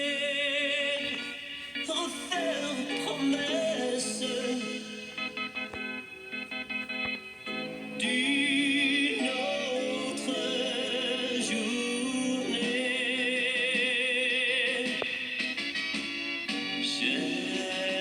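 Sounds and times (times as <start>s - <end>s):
song with vibrato vocals: 0.0s - 6.2s, 7.5s - 15.6s, 16.5s - 18.0s.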